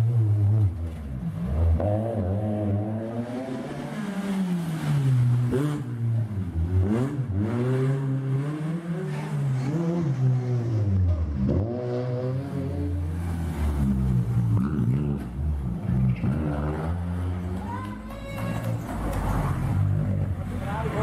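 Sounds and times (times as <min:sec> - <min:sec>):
car engines revving hard: 0:00.0 - 0:17.8, 0:18.6 - 0:21.0.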